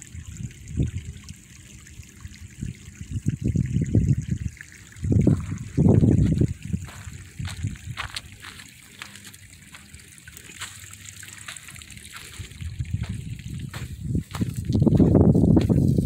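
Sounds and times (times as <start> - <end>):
water trickling over mud: 0.0 - 16.0.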